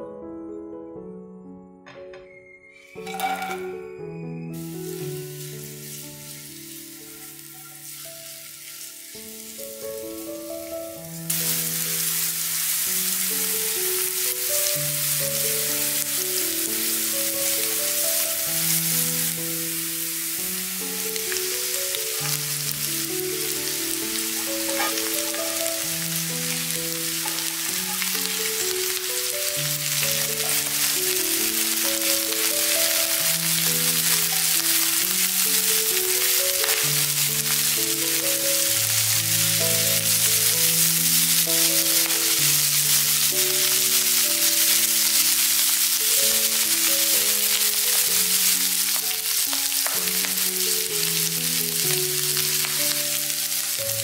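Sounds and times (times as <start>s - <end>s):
slow melodic background music: 0.0s - 54.0s
food sizzling in pan: 2.8s - 54.0s.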